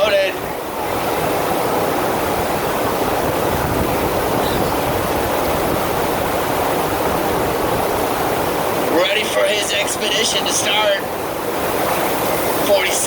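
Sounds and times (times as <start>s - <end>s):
water rushing steadily: 0.0s - 13.0s.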